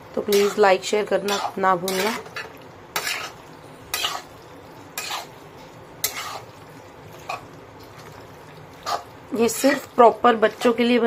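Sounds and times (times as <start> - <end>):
spatula scraping a pan: 0.3 - 7.5, 8.8 - 10.9.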